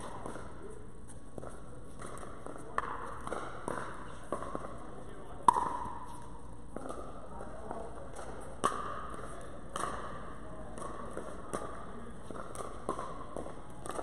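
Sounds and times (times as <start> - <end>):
paddles hitting plastic ball: 0.0 - 14.0.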